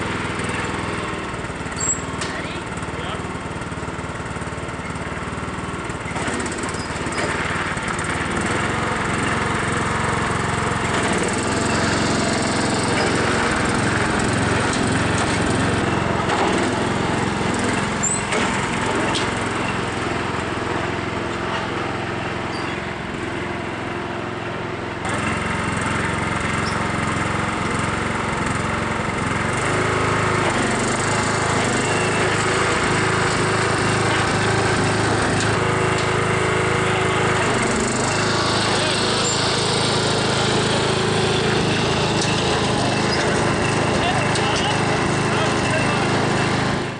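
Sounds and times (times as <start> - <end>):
lawn tractor engine running: 0.0 - 46.9.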